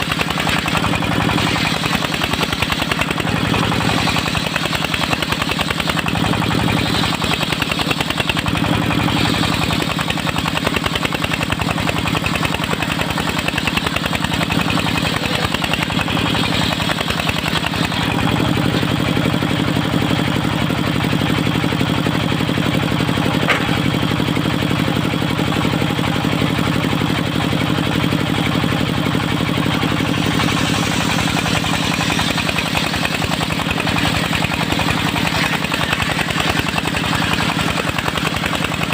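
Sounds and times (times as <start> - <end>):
sawmill engine chugging: 0.0 - 38.9.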